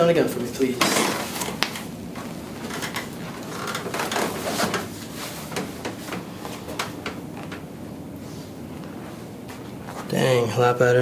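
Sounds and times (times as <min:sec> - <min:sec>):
rustling on padded table: 0:00.9 - 0:10.2.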